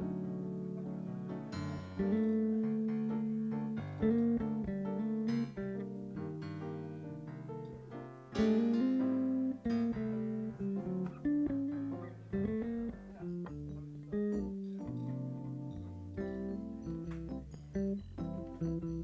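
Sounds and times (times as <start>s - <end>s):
electric bass notes: 0.0s - 19.0s
keyboard chords: 0.0s - 19.0s.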